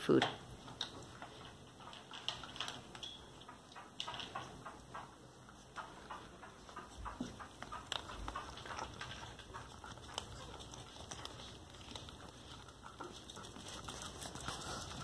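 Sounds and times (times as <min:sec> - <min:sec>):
dog crunching kibble in bowl: 0:00.5 - 0:15.0.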